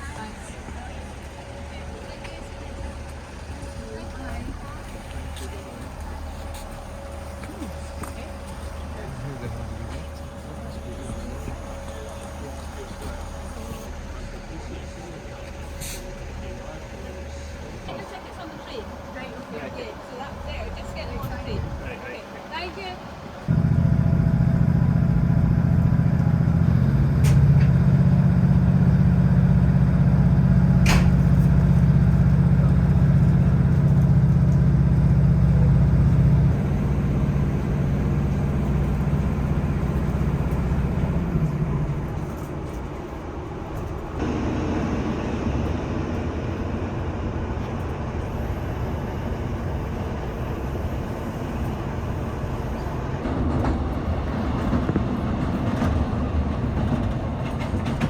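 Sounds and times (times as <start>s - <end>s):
train diesel engine drone: 0.0s - 58.0s.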